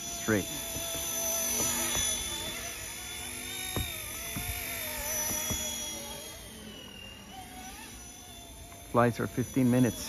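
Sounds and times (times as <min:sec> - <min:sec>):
model helicopter whine: 0:00.0 - 0:10.0.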